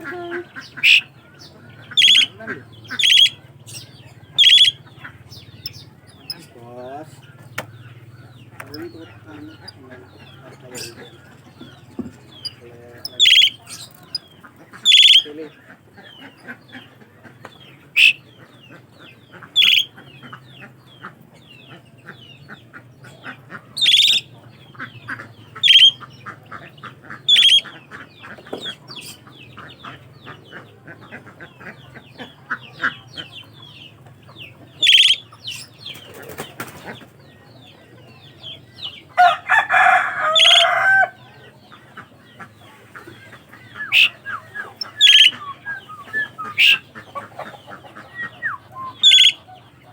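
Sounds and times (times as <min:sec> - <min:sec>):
bird rapid chattering: 0:00.0 - 0:40.9, 0:41.7 - 0:49.9
starling sharp calls: 0:00.0 - 0:49.9.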